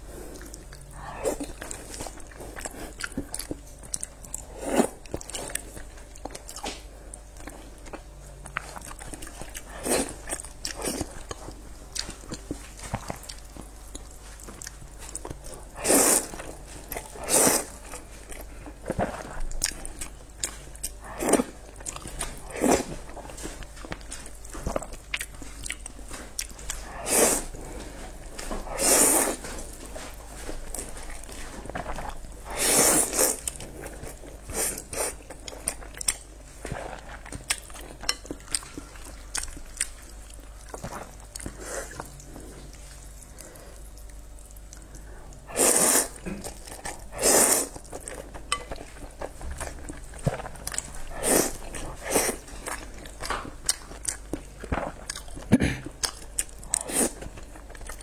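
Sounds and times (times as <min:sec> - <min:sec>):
chewing and biting noodles: 0:00.3 - 0:58.0.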